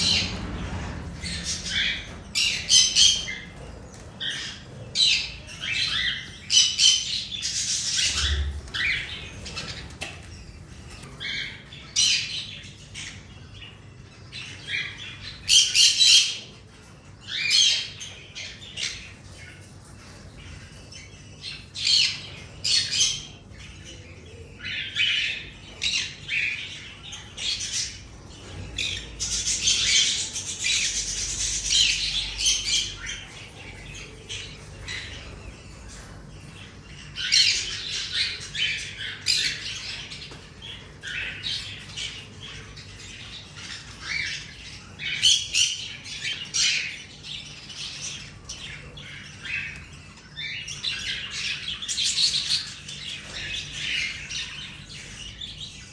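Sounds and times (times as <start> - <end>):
birds calling: 0.0 - 55.9.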